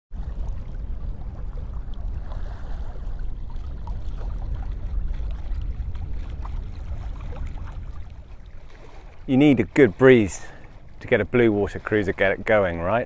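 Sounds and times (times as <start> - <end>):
low rumble: 0.1 - 11.9
water lapping along boat hull: 0.1 - 13.0
small splashes: 0.2 - 13.0.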